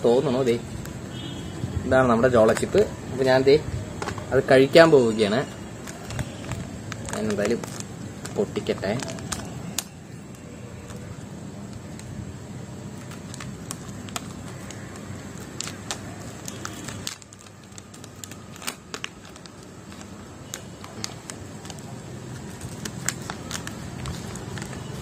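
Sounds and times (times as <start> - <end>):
foil packet crinkling: 4.4 - 25.0.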